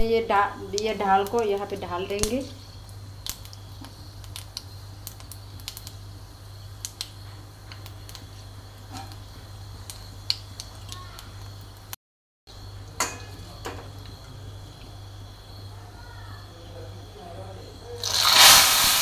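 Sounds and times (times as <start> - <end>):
hot oil bubbling and crackling: 0.0 - 15.7, 18.0 - 19.0
steady low hum: 0.0 - 18.0.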